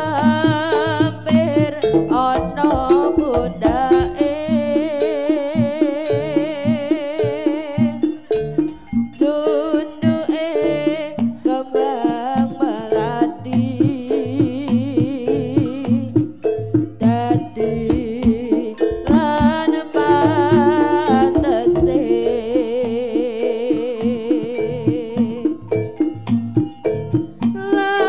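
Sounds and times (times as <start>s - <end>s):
drum strokes: 0.0s - 28.0s
ornamented wavering melody: 0.0s - 28.0s.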